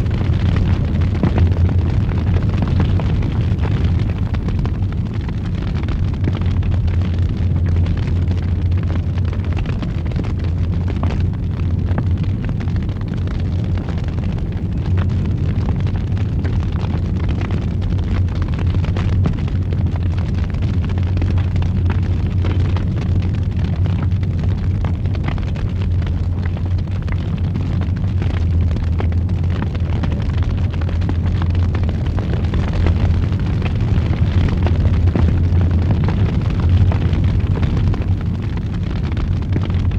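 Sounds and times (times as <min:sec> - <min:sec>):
fire crackles and pops: 0:00.0 - 0:39.9
fire roaring in a fireplace: 0:00.0 - 0:39.9.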